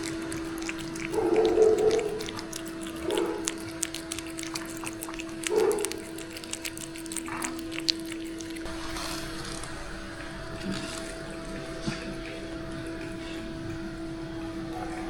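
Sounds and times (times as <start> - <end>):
dog vocalizing: 0.0 - 15.0
steady hum: 0.0 - 15.0.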